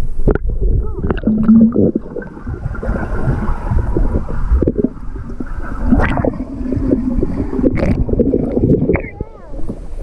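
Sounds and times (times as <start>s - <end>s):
muffled water sloshing: 0.0s - 10.0s.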